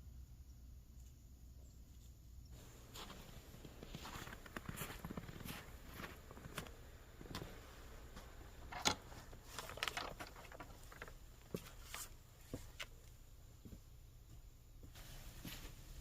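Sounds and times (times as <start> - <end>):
rustles: 0.9 - 13.8, 14.8 - 16.0.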